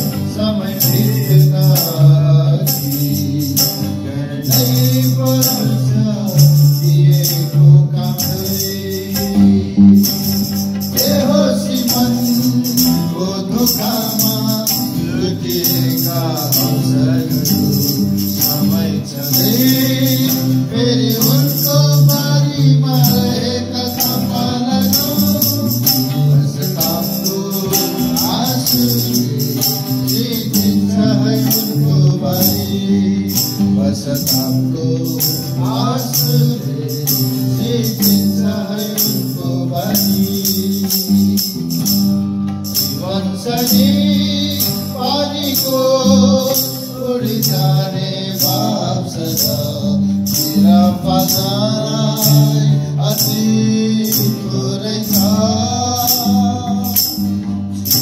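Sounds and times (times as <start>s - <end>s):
person singing: 0.0s - 41.8s, 42.8s - 58.0s
hand drum: 0.0s - 48.6s
jingling percussion: 0.0s - 58.0s
strummed acoustic guitars: 0.0s - 58.0s.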